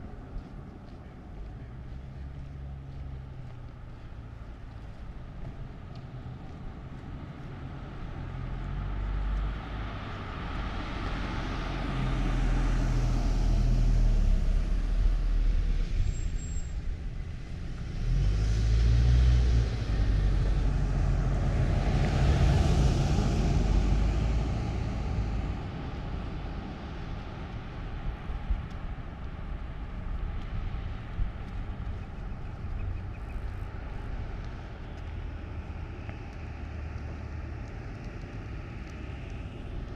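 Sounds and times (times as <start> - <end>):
vehicles driving past: 0.0 - 39.9.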